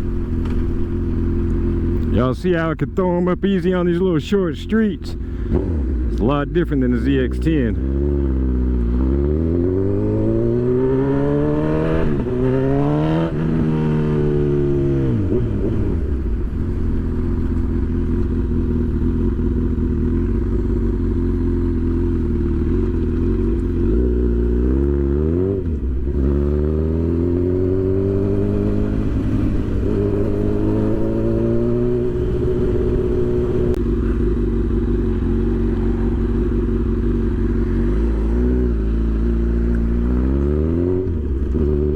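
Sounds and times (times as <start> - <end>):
motorcycle engine revving: 0.0 - 2.5, 4.0 - 41.9.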